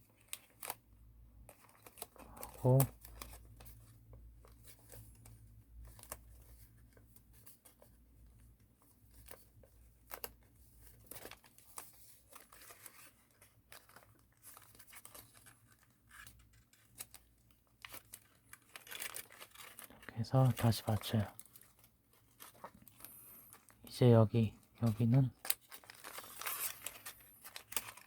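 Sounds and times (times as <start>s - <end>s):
paper crinkling: 0.0s - 28.0s.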